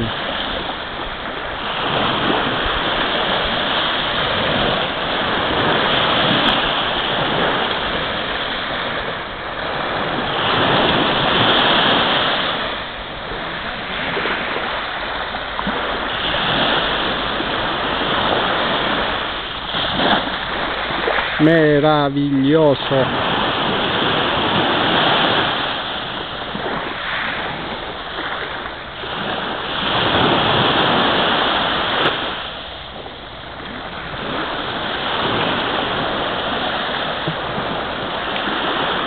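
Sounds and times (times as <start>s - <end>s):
sea waves washing over shore: 0.0s - 39.0s.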